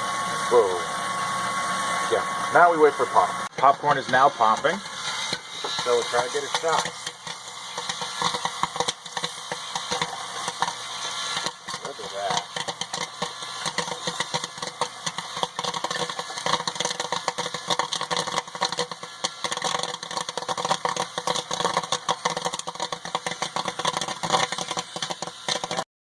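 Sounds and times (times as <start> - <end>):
machine hum: 0.0 - 25.8
popcorn popping: 0.0 - 25.9.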